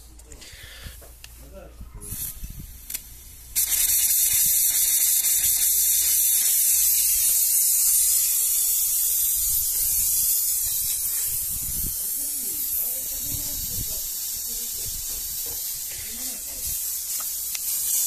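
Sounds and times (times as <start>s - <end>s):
compressed air spray hissing: 0.4s - 18.0s.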